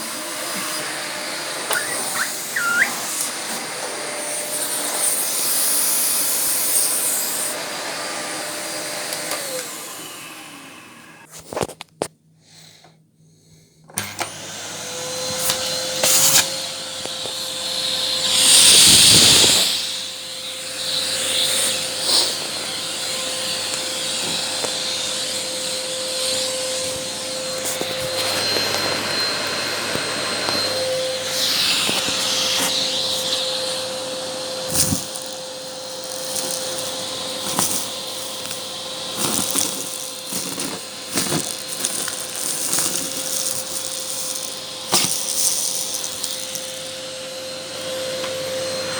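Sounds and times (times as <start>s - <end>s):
vacuum cleaner running: 0.0s - 11.3s, 13.9s - 48.9s.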